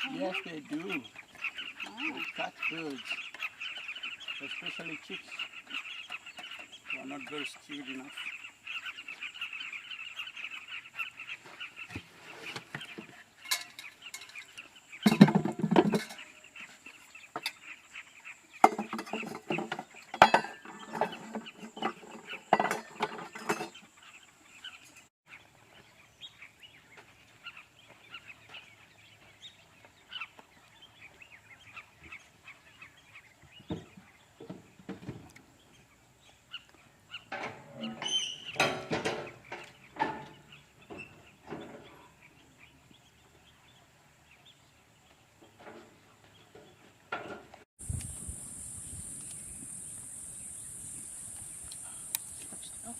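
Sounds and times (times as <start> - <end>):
higher bird chatter: 0.0 - 44.7, 47.8 - 52.9.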